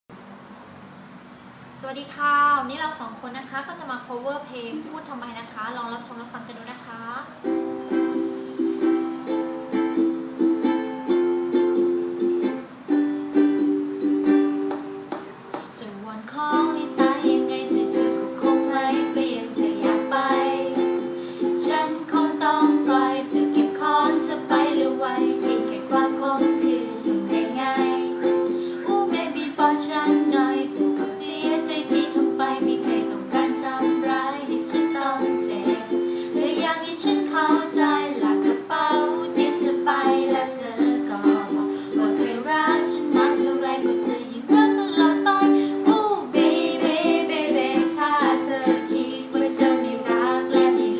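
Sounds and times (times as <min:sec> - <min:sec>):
ukulele strumming chords: 0:07.4 - 0:50.9.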